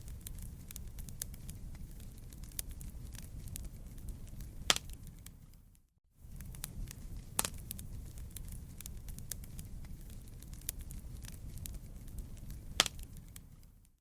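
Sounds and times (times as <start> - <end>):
sharp fire pops: 0.0 - 5.6, 6.2 - 13.9
low rumble of flames: 0.0 - 14.0
wood fire crackling: 0.0 - 14.0.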